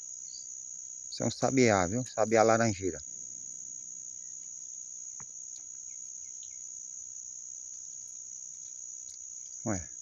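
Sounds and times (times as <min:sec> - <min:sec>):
insects shrilling: 0:00.0 - 0:10.0.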